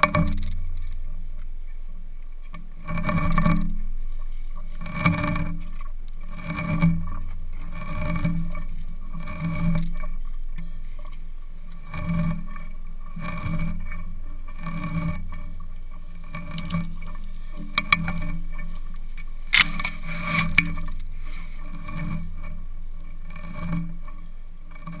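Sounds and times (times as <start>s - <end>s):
muffled rubbing and creaking: 0.0s - 25.0s.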